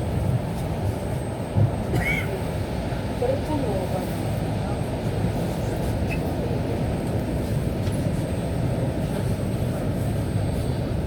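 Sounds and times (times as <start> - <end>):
electric train low rumble: 0.0 - 11.0.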